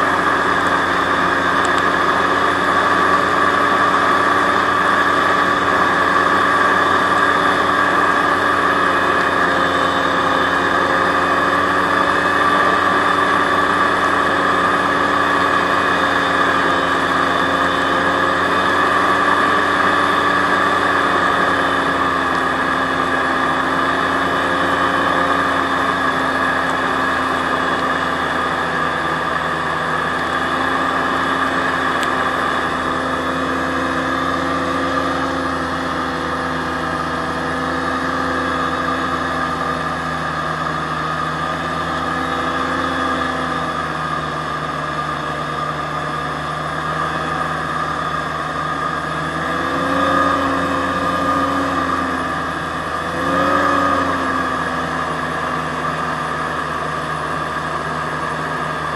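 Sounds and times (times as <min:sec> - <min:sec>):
hovercraft engine and fans running: 0:00.0 - 0:58.9.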